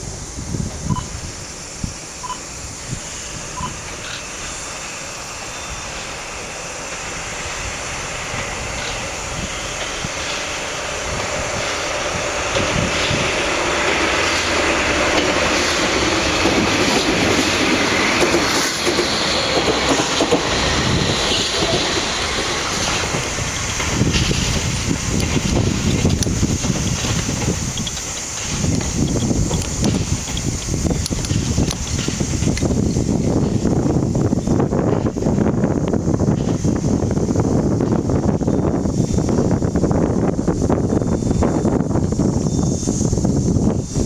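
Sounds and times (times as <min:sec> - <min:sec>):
freight train wheels on rails: 0:00.0 - 0:44.0.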